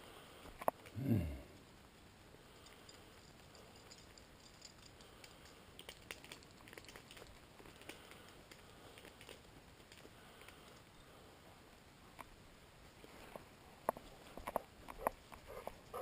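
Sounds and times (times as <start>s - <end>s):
faint steady hiss: 0.0s - 16.0s
small clicks and ticks: 0.4s - 11.0s, 13.2s - 16.0s.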